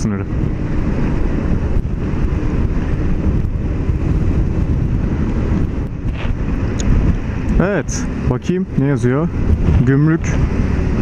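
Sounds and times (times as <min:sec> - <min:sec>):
road noise: 0:00.0 - 0:11.0
wind rushing over microphone: 0:00.0 - 0:11.0.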